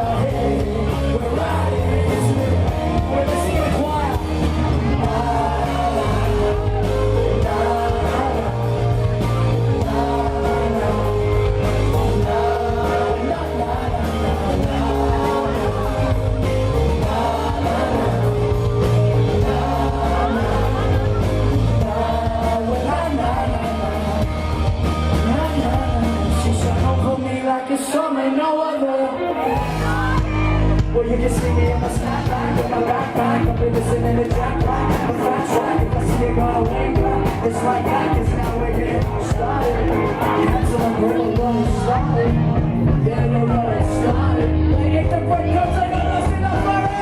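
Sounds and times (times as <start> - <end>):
repeating bass line: 0.0 - 27.2, 29.6 - 47.0
live band music: 0.0 - 47.0
person singing: 0.0 - 47.0.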